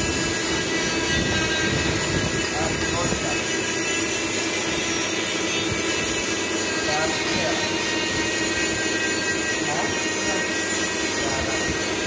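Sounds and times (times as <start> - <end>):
workshop machinery drone: 0.0 - 12.0.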